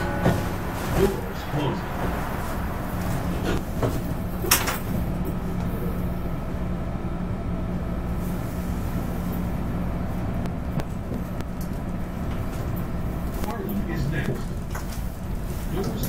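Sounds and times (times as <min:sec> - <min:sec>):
train and road traffic rumble: 0:00.0 - 0:16.0.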